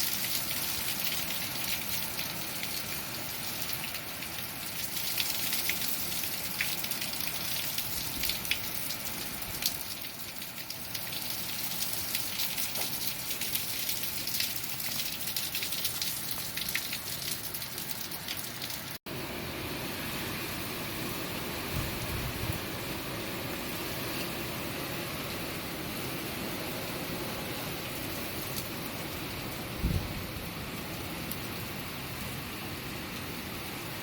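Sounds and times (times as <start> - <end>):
heavy rain pelting down: 0.0 - 34.0.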